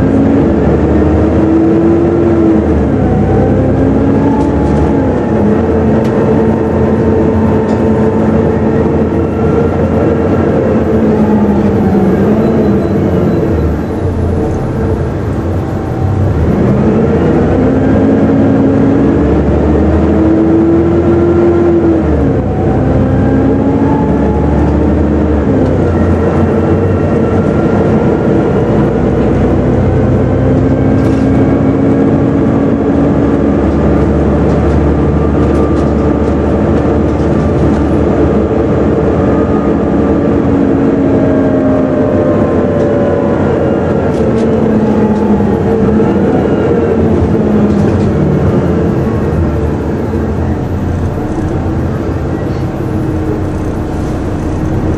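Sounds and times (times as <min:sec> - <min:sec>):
bus engine whine: 0:00.0 - 0:54.9.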